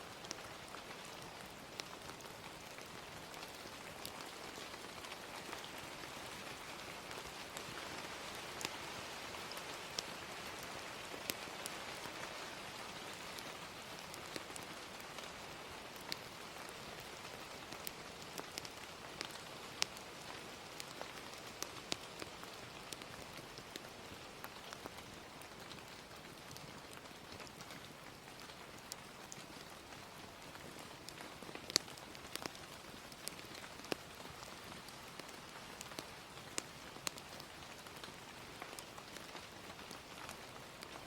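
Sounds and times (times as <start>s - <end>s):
rain hiss: 0.0s - 41.0s
wood fire crackling: 0.1s - 41.0s.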